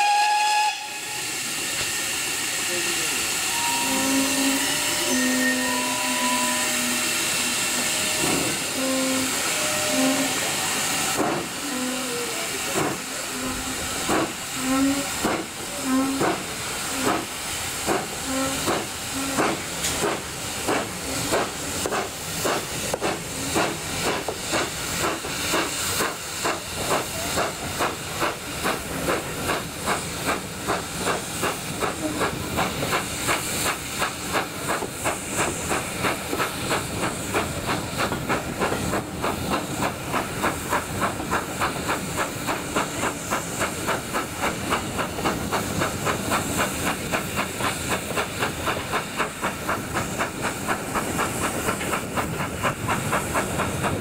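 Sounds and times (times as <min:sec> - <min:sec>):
steam hiss: 0:00.0 - 0:54.0
steam locomotive exhaust beats: 0:00.0 - 0:54.0.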